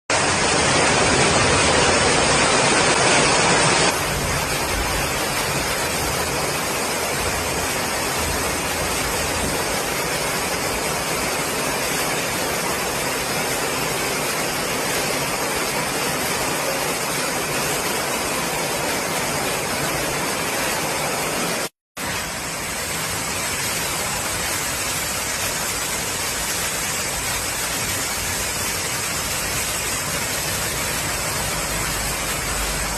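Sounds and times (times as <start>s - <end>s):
flowing floodwater: 0.1s - 32.9s
heavy rain: 0.1s - 32.9s.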